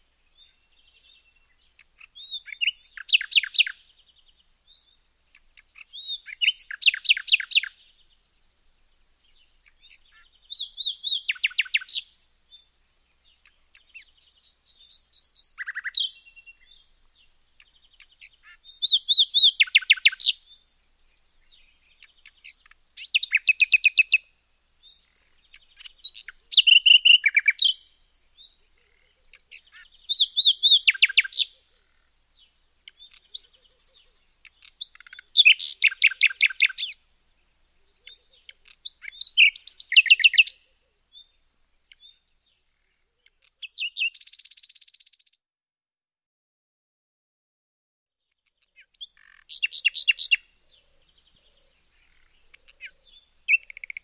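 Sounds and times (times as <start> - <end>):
songbird singing: 0.0 - 45.4, 48.2 - 54.0.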